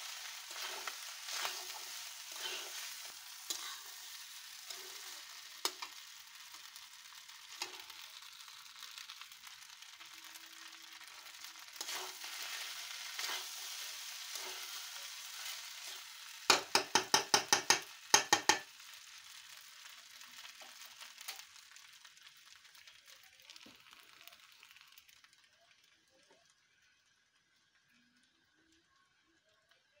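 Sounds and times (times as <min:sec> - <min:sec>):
rice sizzling in a pan: 0:00.0 - 0:29.9.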